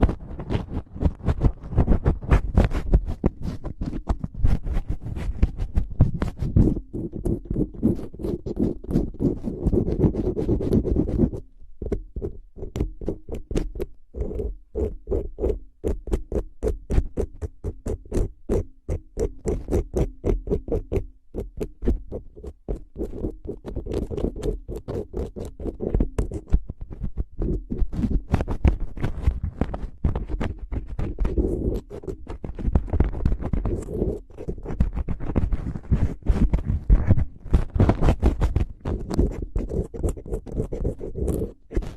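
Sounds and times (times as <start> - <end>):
rapid tapping and scratching: 0.0 - 41.9.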